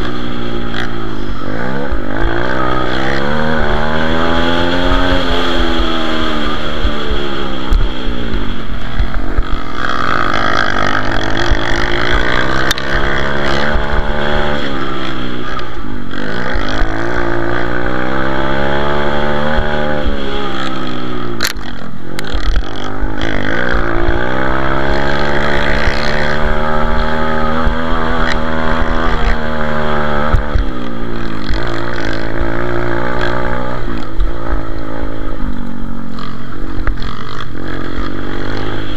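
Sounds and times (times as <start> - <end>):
motorbike engine revving hard: 0.0 - 38.9
rush of wind: 0.0 - 38.9.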